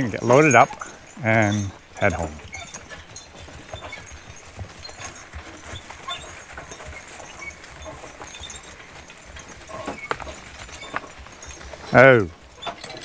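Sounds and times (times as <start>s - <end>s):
horses stepping: 0.0s - 13.0s.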